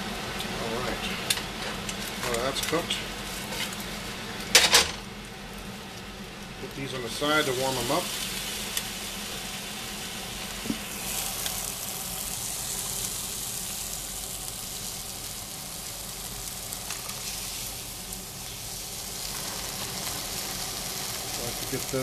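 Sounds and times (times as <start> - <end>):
omelette sizzling in a pan: 1.5 - 22.0.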